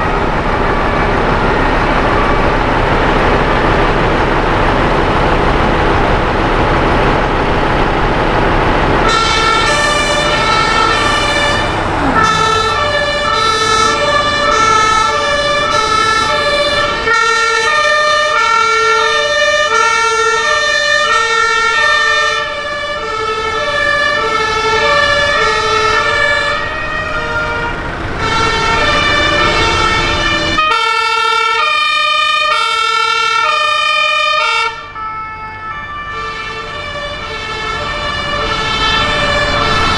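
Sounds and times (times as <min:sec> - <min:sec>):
fire truck engine rumbling: 0:00.0 - 0:39.9
two-tone sirens: 0:00.0 - 0:39.9.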